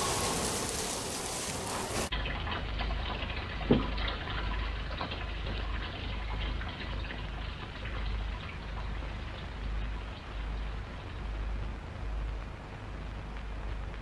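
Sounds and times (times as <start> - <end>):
film soundtrack hiss and crackle: 0.0 - 14.0
mains hum: 0.0 - 14.0.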